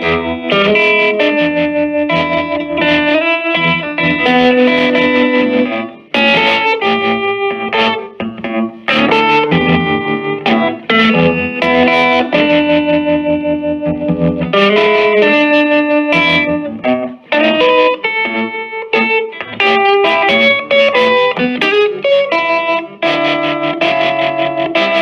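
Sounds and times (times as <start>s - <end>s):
electric guitar with tremolo: 0.0s - 25.0s.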